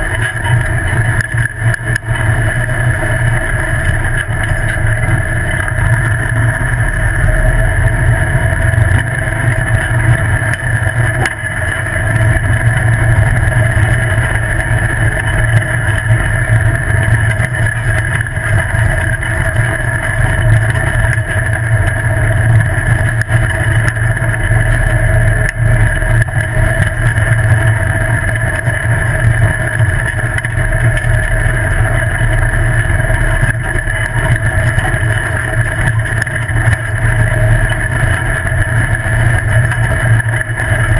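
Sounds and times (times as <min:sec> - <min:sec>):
buggy engine drone: 0:00.0 - 0:40.9
tyres rumbling on gravel: 0:00.0 - 0:40.9.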